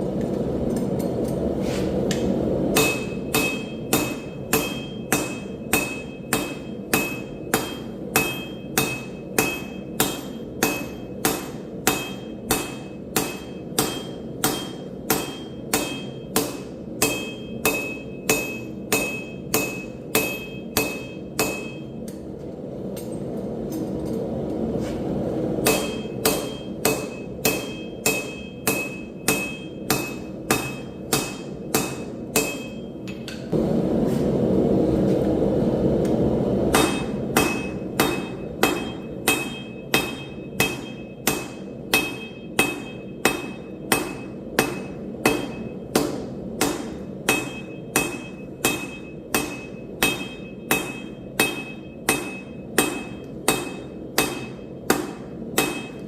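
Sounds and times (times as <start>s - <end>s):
hammer ringing on anvil: 2.7s - 22.2s, 25.6s - 33.5s, 36.7s - 56.0s.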